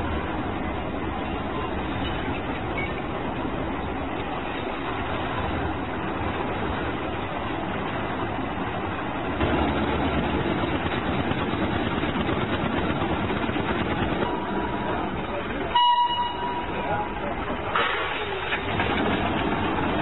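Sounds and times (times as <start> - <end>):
steady mechanical rumble: 0.0 - 20.0.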